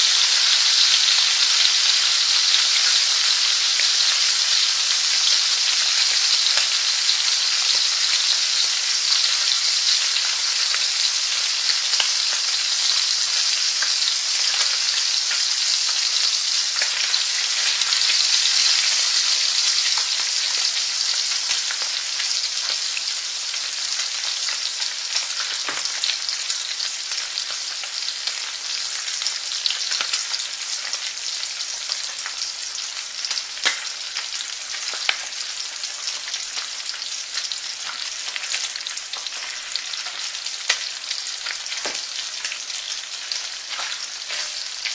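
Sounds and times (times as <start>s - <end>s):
food sizzling in a pan: 0.0s - 44.9s.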